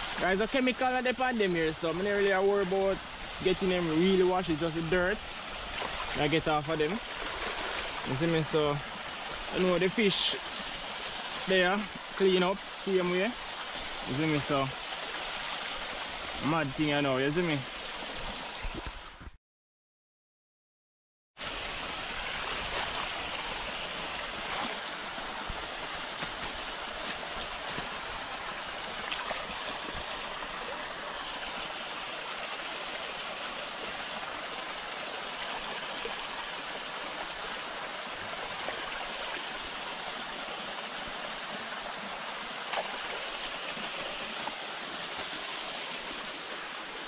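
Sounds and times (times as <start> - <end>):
stream rushing over rocks: 0.0 - 18.9, 21.4 - 47.0.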